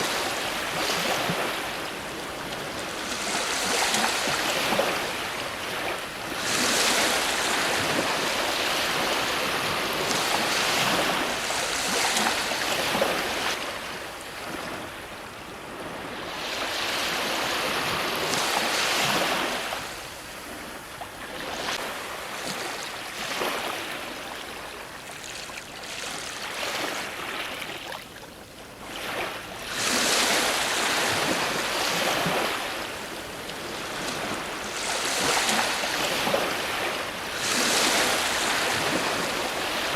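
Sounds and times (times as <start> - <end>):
ocean waves breaking: 0.0 - 28.0, 28.8 - 39.9.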